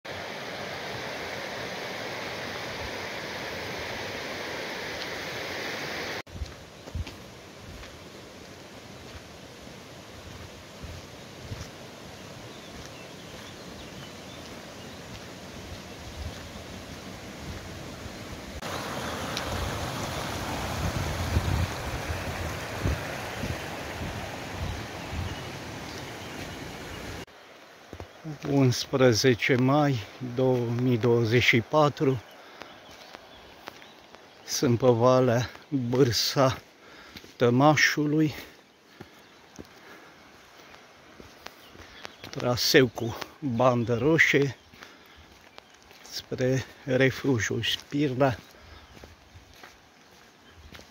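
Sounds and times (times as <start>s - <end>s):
stream rushing over stones: 0.1s - 50.9s.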